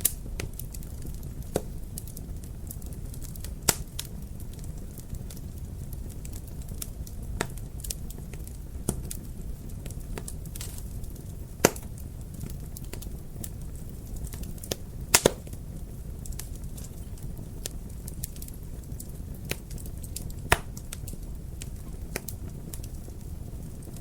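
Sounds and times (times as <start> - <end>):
low rumble of burning fire: 0.0 - 24.0
wood fire crackling and popping: 0.0 - 24.0.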